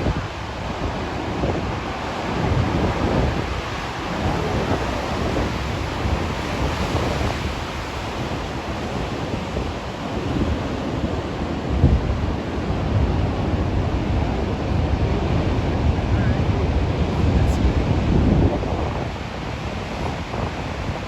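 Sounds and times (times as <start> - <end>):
ocean waves breaking: 0.0 - 21.0
wind buffeting microphone: 0.0 - 21.0.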